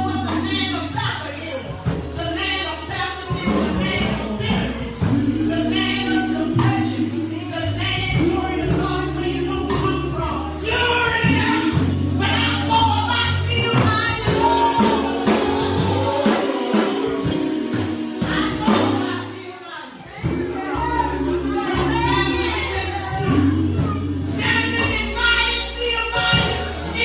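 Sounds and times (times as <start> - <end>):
band with steady beat: 0.0 - 19.6, 20.2 - 27.0
gospel choir singing: 0.0 - 27.0.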